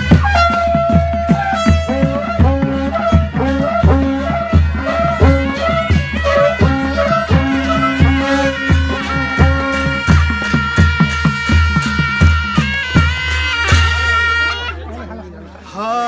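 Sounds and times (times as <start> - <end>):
bass and drum beat: 0.0 - 14.7
wind instrument melody: 0.0 - 15.0.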